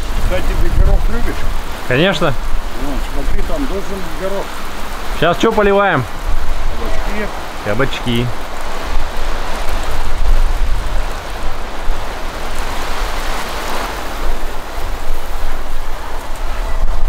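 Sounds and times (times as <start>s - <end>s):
water spraying on plants: 0.0s - 17.0s.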